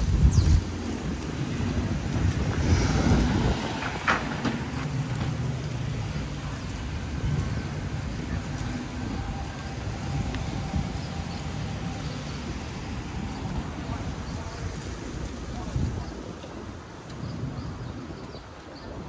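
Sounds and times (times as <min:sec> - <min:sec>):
traffic rumble: 0:00.0 - 0:19.0
wind noise on microphone: 0:00.0 - 0:19.0.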